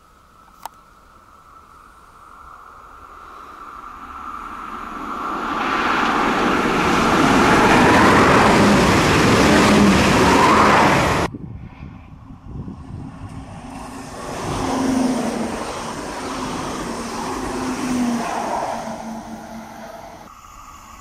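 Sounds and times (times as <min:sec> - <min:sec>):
train passing at speed: 0:00.9 - 0:21.0.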